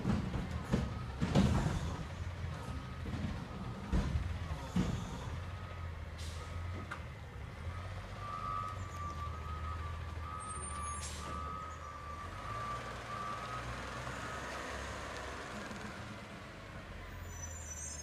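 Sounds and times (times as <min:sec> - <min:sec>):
truck engine drone: 0:00.0 - 0:18.0
truck backup alarm beeping: 0:00.2 - 0:15.8.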